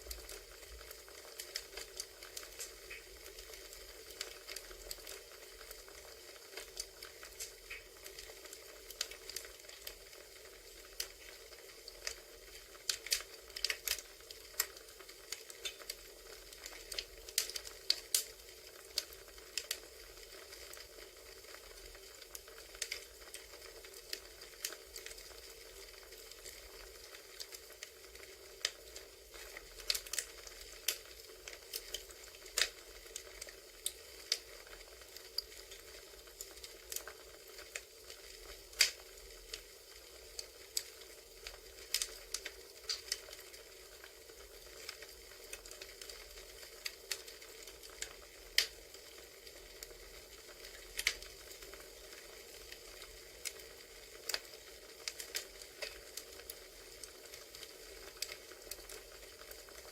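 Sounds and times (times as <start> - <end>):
soft fire hiss: 0.0 - 59.9
wood fire crackling and popping: 0.0 - 59.9.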